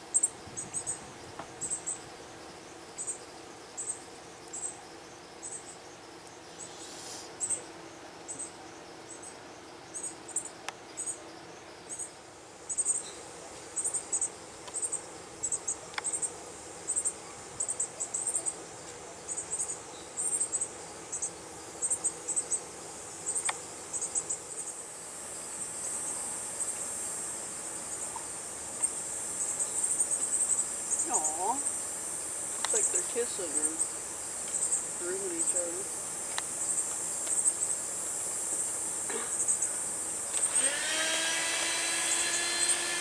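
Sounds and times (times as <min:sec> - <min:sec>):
high insect buzz: 0:00.0 - 0:43.0
insects chirping: 0:00.0 - 0:43.0.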